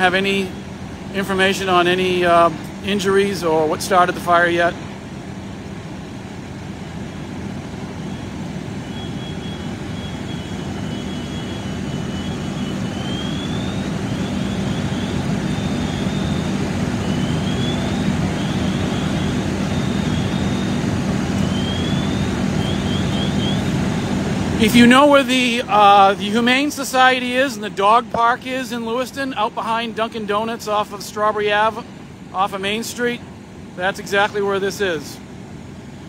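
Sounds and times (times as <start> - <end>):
diesel engine and pump humming: 0.0 - 36.0.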